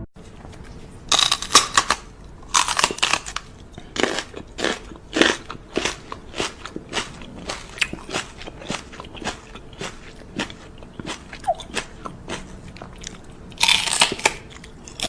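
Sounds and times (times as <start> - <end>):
pet chewing crunchy food: 0.2 - 15.0.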